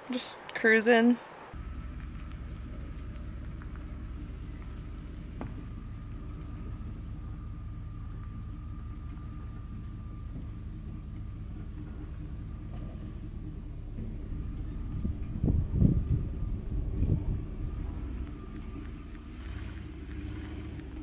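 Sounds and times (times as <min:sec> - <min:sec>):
van engine rumbling: 0:01.5 - 0:21.0.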